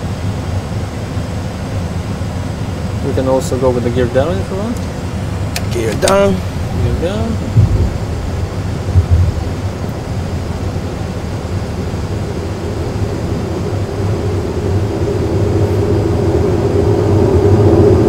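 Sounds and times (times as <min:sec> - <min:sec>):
low hum of landing gear: 0:00.0 - 0:18.0
rumble of airflow and engine: 0:00.0 - 0:18.0.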